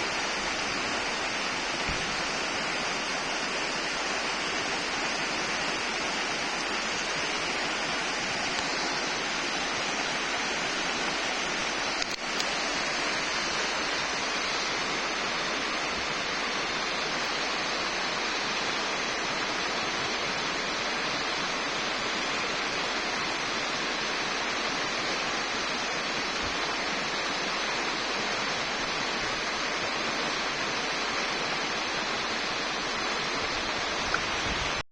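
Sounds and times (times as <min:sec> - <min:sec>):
bonfire burning with hiss: 0:00.0 - 0:34.8.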